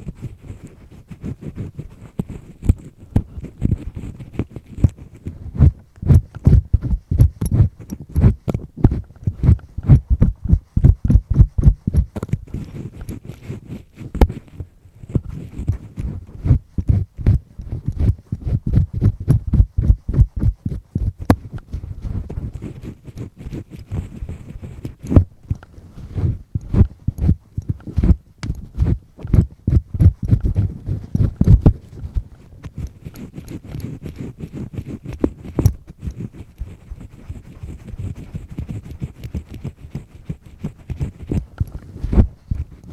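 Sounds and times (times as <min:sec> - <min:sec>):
earpick scraping inside ear: 0:00.0 - 0:42.9.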